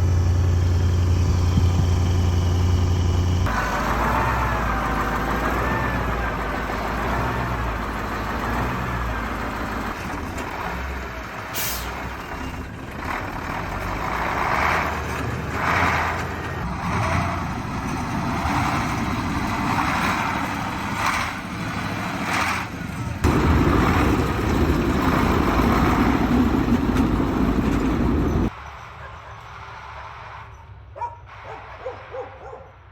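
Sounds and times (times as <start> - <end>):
diesel truck engine running: 0.0 - 28.5.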